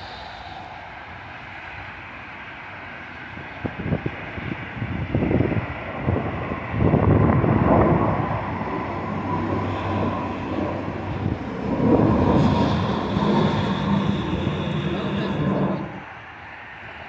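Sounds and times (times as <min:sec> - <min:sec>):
higher jet engine whine: 0:00.0 - 0:17.0
jet engines rumbling and whining: 0:00.0 - 0:17.0.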